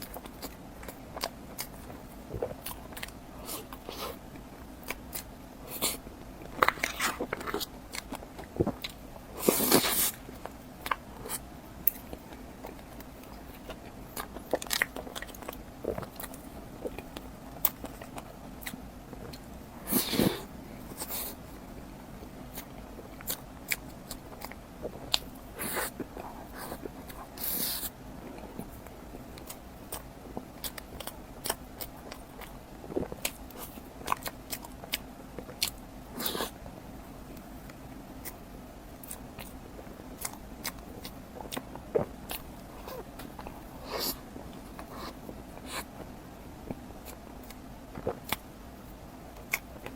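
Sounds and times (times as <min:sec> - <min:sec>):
biting and chewing: 0:00.0 - 0:21.3, 0:22.5 - 0:36.5, 0:39.0 - 0:48.5.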